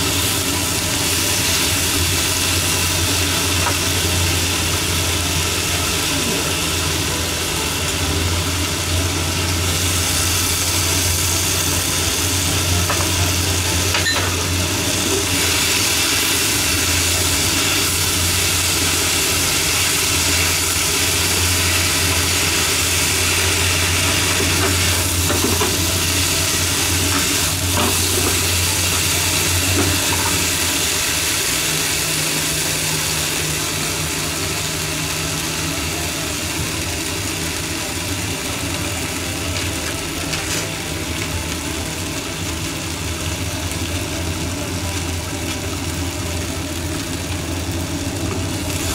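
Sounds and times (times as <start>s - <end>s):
peppers sizzling in a frying pan: 0.0s - 48.9s.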